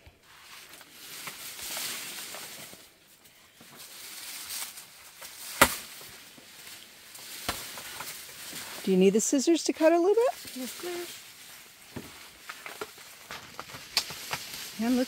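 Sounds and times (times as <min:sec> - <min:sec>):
vines and leaves rustling: 0:00.0 - 0:15.0.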